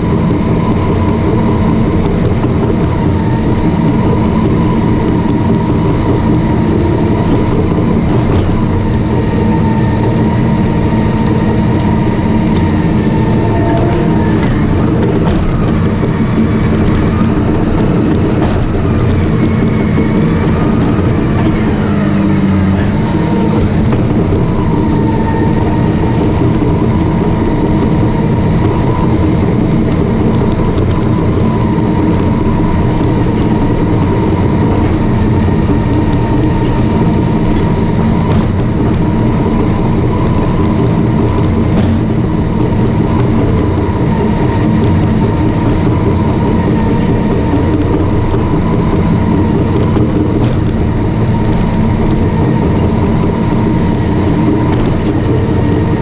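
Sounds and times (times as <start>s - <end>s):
bulldozer diesel engine running: 0.0s - 56.0s
steel tracks clattering: 0.0s - 56.0s.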